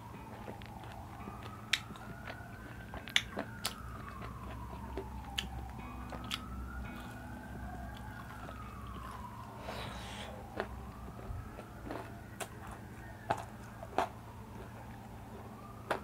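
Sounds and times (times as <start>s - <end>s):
chewing and crunching food: 0.0s - 16.0s
siren wailing: 0.0s - 16.0s.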